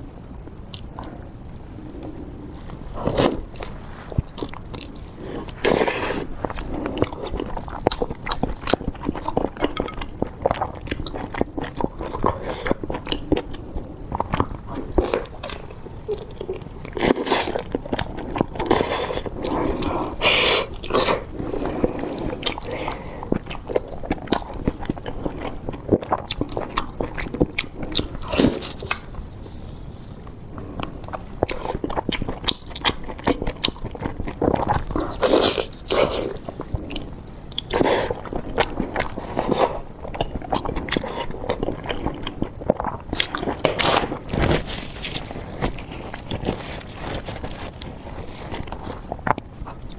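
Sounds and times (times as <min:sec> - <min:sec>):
chewing and wet smacking: 0:02.0 - 0:29.2, 0:30.2 - 0:49.9.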